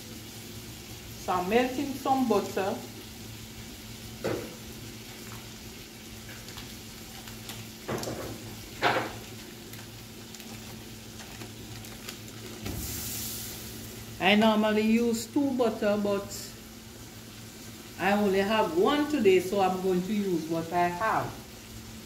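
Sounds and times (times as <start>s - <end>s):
butter sizzling in a pot: 0.0s - 22.0s.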